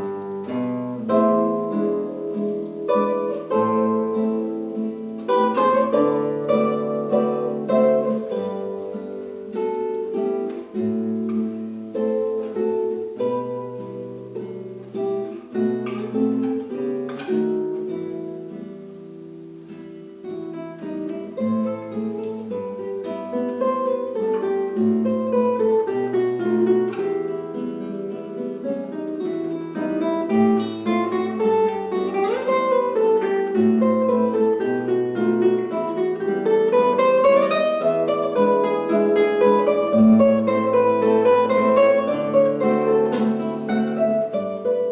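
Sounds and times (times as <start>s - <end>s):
plucked-string melody: 0.0s - 44.9s.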